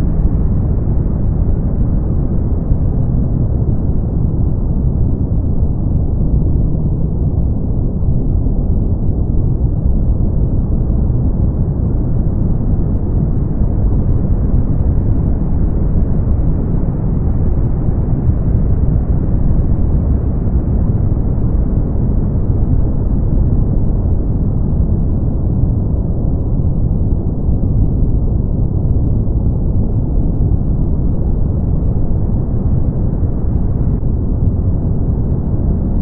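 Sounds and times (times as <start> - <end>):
brown noise: 0.0 - 36.0.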